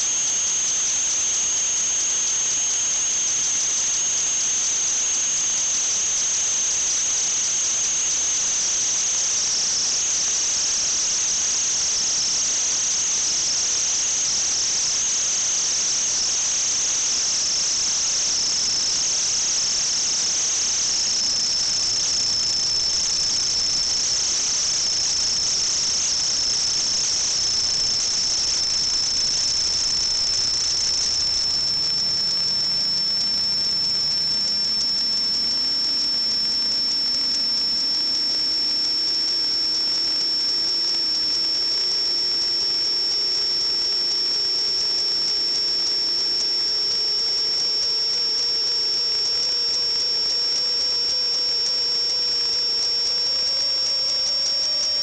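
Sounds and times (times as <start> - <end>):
high-pitched whine with hiss: 0.0 - 55.0.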